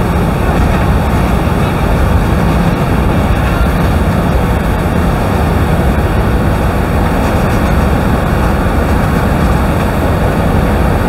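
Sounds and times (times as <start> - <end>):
boat motor: 0.0 - 11.0
waterfall rushing: 0.0 - 11.0
wind on microphone: 0.0 - 11.0.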